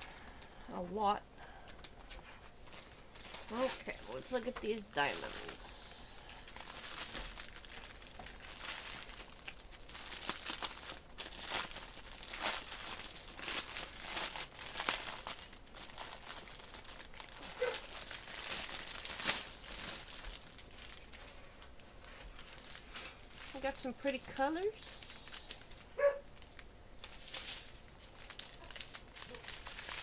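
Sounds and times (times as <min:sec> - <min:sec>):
plastic packaging crinkling: 0:00.0 - 0:00.7, 0:01.6 - 0:30.0.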